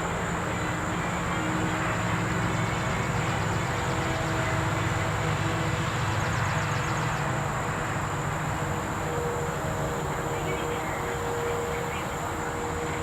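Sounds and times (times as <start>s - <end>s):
insect chorus buzzing: 0.1s - 13.0s.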